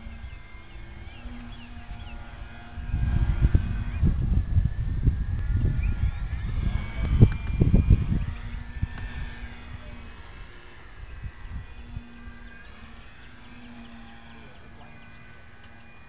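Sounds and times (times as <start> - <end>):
distant model airplane motors droning: 0.0 - 16.0
wind rumble on microphone: 0.0 - 16.0.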